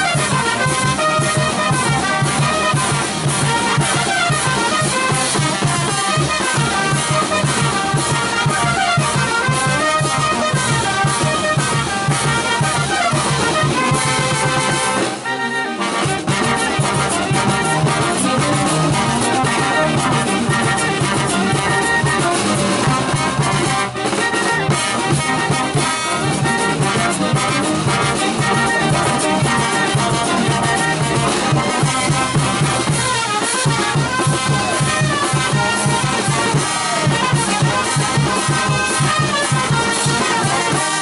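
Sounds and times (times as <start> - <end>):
bass drum: 0.0 - 15.3, 16.0 - 41.0
saxophones: 0.0 - 41.0
snare drum: 0.0 - 41.0
trumpets: 0.0 - 41.0.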